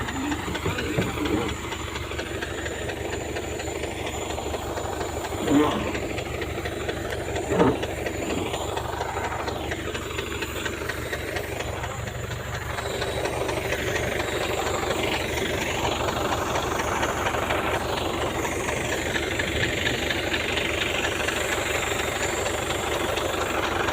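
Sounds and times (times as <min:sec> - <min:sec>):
engine running with rapid pulse: 0:00.0 - 0:23.9.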